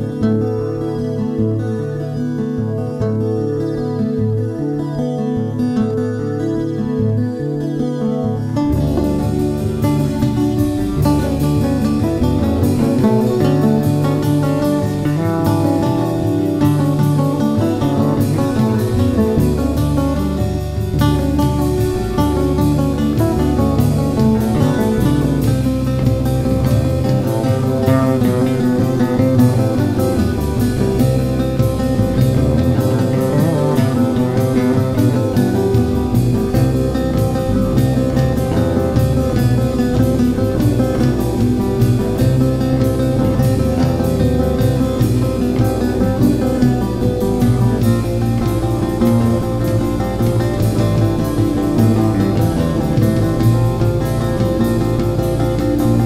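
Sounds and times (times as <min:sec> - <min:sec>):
electric guitar: 0:00.0 - 0:56.0
fretless electric bass: 0:00.0 - 0:56.0
drum kit steady beat: 0:08.7 - 0:56.0.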